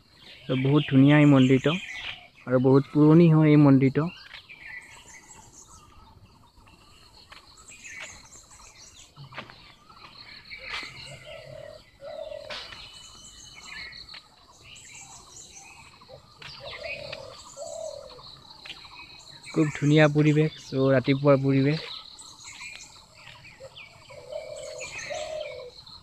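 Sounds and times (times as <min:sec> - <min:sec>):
birds chirping: 0:00.0 - 0:26.0
high insect hum: 0:00.0 - 0:26.0.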